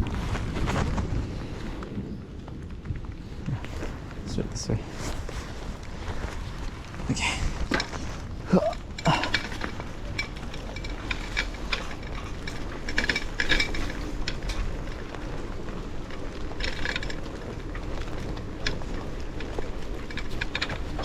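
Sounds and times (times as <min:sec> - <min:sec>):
bicycle rattling and clicking: 0:00.0 - 0:21.0.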